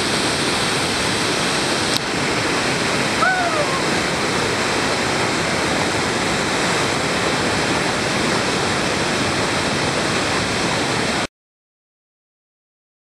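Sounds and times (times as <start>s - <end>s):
river rapids rushing: 0.0s - 11.3s.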